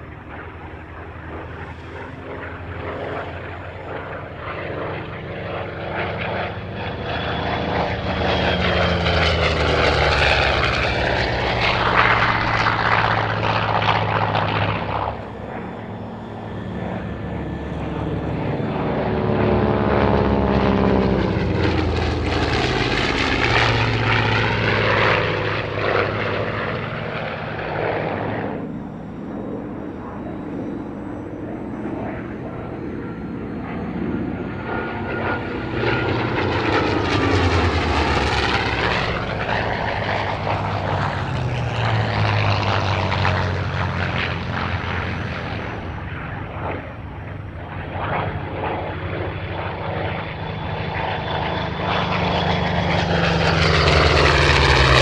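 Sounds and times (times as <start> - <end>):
faint fighter engine: 0.0 - 55.0
propeller plane engine drone: 0.0 - 55.0.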